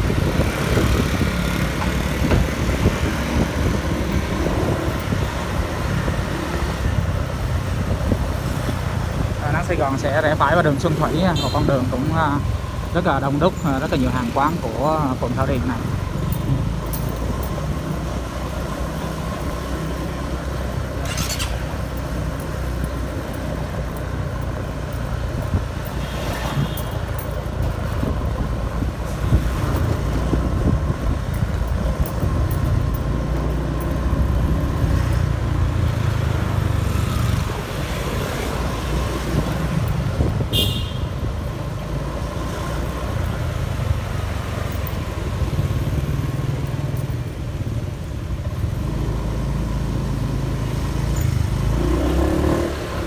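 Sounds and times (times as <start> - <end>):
cars and motorbikes passing: 0.0 - 53.0
engine and road rumble: 0.0 - 53.0.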